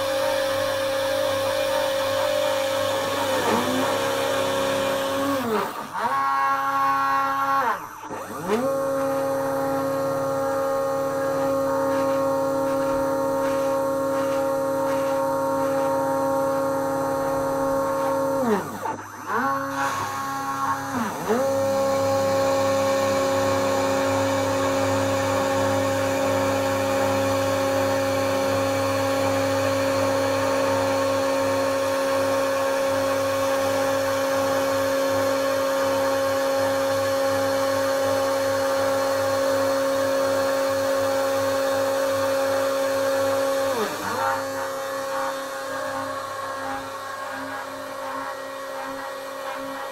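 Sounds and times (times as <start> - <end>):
router spindle motor whining: 0.0 - 49.9.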